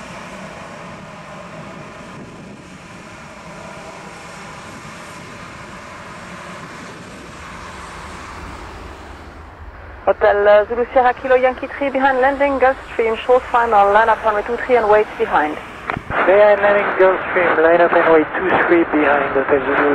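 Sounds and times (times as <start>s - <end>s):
jet engines at taxi power: 0.0s - 19.9s.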